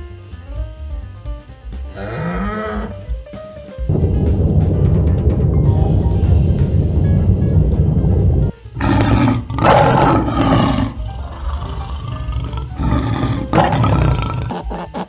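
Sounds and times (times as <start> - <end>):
background music: 0.0 - 15.0
low drumbeat: 1.8 - 15.0
big cat roaring: 2.0 - 3.0, 3.9 - 15.0.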